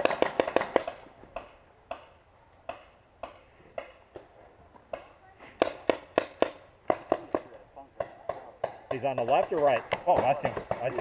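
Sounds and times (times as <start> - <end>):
rapid paintball fire: 0.0 - 4.2, 4.9 - 11.0.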